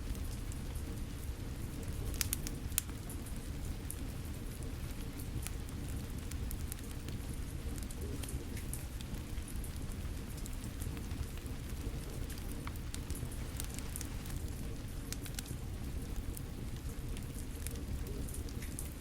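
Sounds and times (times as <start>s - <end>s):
fire crackling and popping: 0.0s - 19.0s
steady rain: 0.0s - 19.0s.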